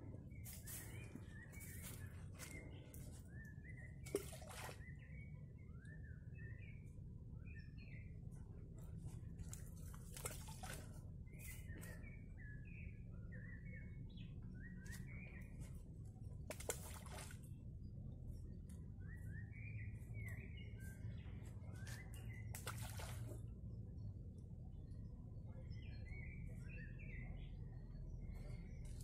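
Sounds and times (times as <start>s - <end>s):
low outdoor background: 0.0s - 29.0s
songbird chirping: 0.0s - 29.0s.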